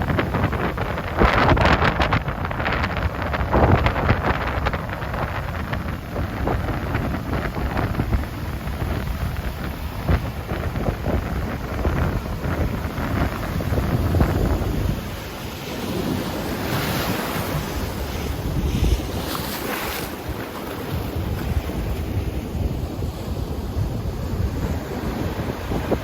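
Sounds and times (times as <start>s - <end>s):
ocean surf breaking: 0.0s - 26.0s
strong wind buffeting microphone: 0.0s - 26.0s.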